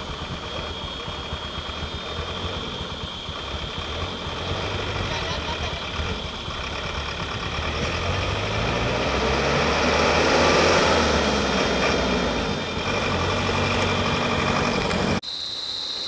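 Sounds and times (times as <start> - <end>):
truck engine idling: 0.0 - 15.2
high-pitched whine: 0.0 - 16.0.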